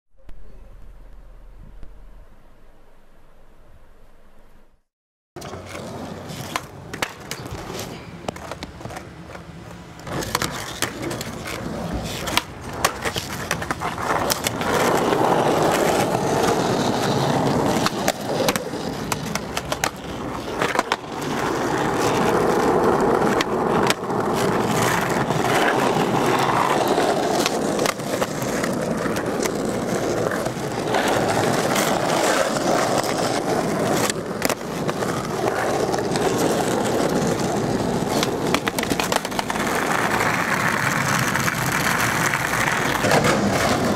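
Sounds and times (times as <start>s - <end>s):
skateboard clacks: 5.4s - 43.9s
skateboard wheels rolling on asphalt: 5.4s - 43.9s.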